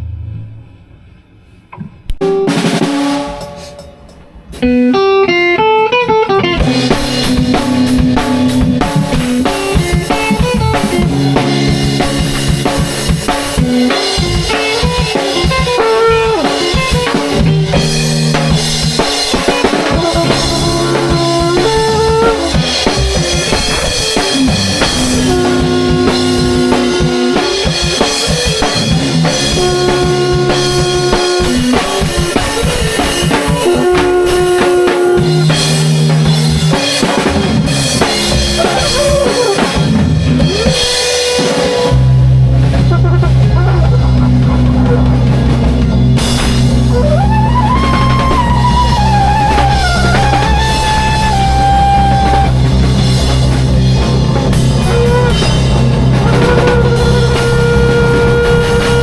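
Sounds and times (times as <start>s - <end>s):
live band playing: 2.2s - 59.0s
loose drum hits: 6.6s - 59.0s.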